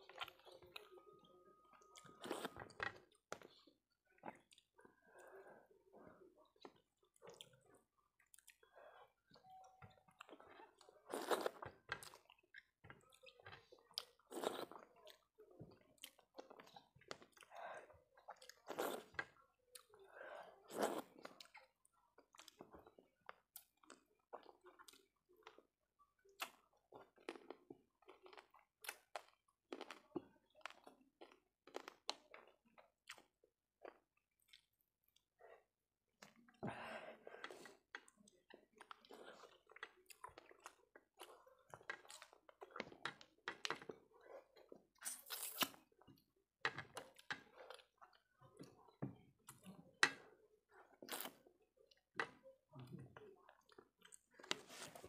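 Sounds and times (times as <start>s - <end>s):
close-miked chewing and mouth sounds: 0.0s - 36.6s, 37.2s - 55.0s.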